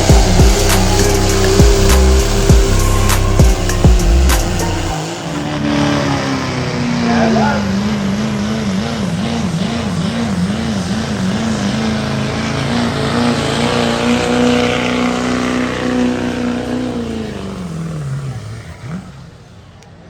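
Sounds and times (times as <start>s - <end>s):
diesel engine revving hard: 0.0s - 20.0s.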